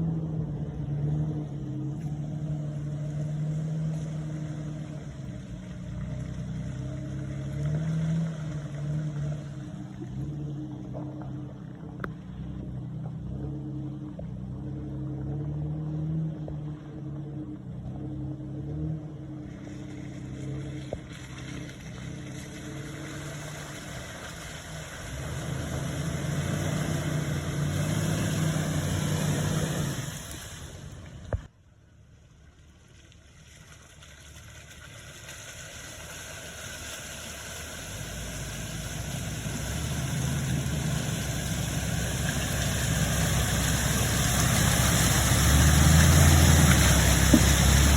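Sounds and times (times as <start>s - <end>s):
car engine running: 0.0s - 33.1s, 34.1s - 47.9s.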